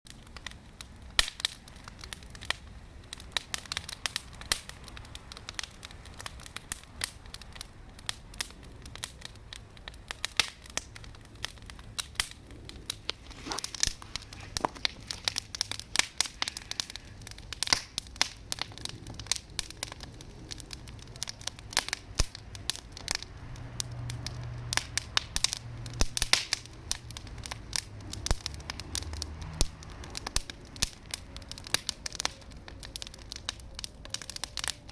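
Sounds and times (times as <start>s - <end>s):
campfire crackling and popping: 0.1s - 34.9s.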